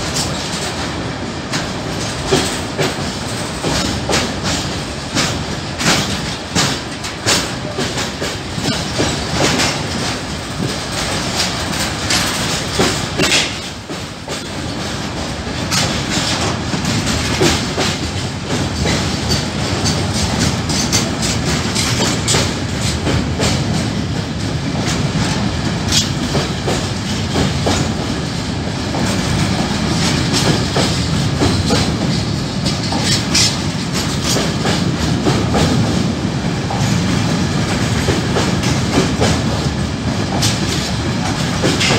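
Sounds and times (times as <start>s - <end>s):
freight train wheels clattering: 0.0s - 41.9s.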